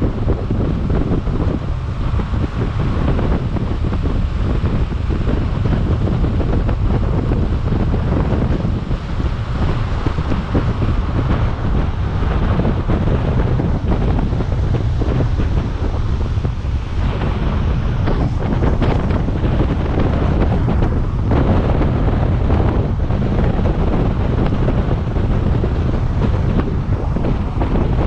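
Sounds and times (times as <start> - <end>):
wheels rolling on asphalt: 0.0 - 28.0
wind on microphone: 0.0 - 28.0.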